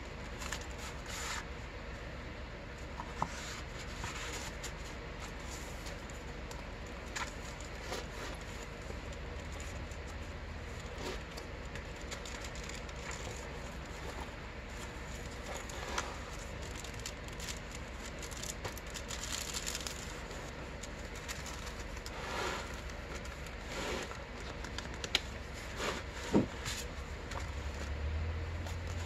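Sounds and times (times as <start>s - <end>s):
steady low hum: 0.0s - 29.0s
paper pages rustling: 3.0s - 27.9s.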